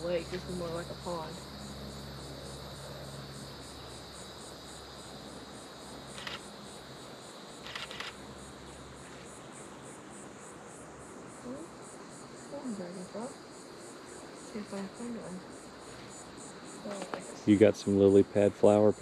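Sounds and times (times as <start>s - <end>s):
insects droning: 0.0s - 19.0s
pulsing insect chirp: 0.0s - 19.0s.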